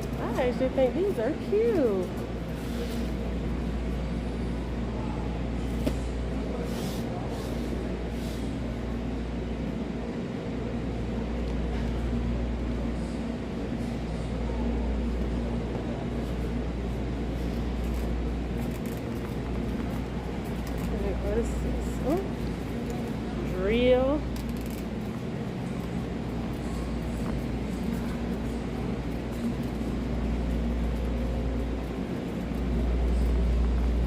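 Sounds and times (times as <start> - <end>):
supermarket background rumble: 0.0 - 34.0.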